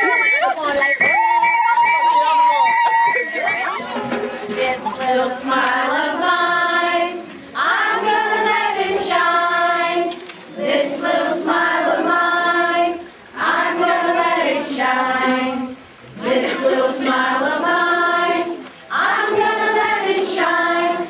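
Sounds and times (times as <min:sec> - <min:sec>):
women singing together: 0:03.4 - 0:21.0.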